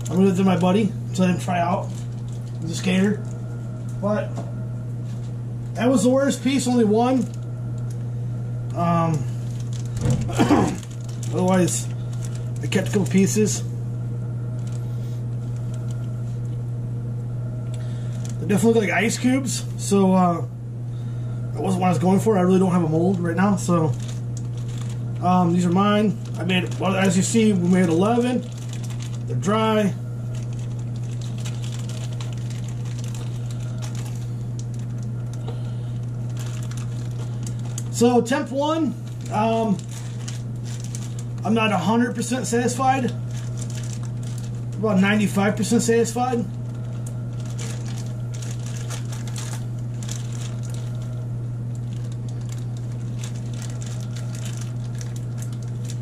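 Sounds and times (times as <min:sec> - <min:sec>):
plastic bag crinkling: 0:00.0 - 0:05.7, 0:06.4 - 0:13.7, 0:14.5 - 0:16.6, 0:17.6 - 0:19.9, 0:21.8 - 0:56.0
low background hum: 0:00.0 - 0:56.0.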